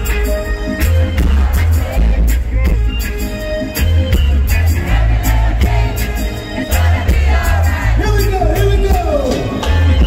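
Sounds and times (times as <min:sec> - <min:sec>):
reggae band over loud pa: 0:00.0 - 0:10.0.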